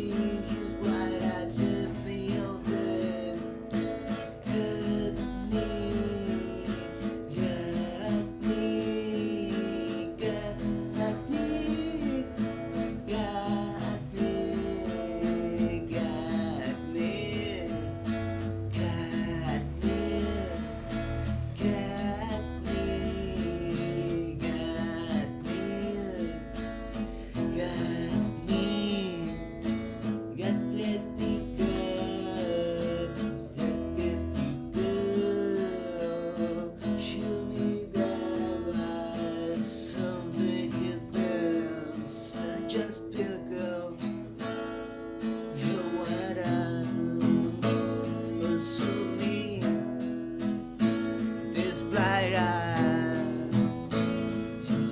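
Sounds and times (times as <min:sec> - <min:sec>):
guitar plucked and strummed: 0:00.0 - 0:54.9.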